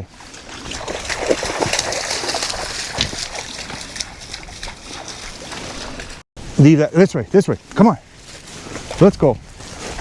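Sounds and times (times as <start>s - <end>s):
splashing in shallow water: 0.0s - 6.2s, 8.1s - 10.0s.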